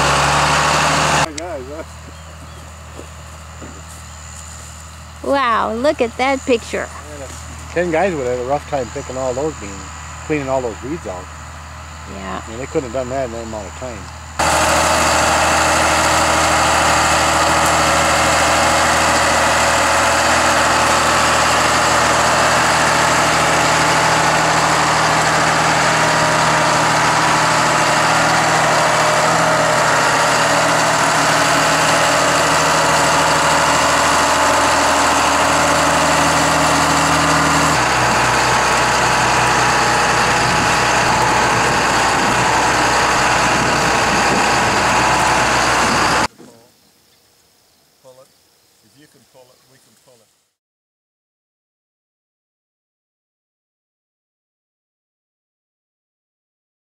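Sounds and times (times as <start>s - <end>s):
tractor diesel engine running: 0.0s - 46.3s.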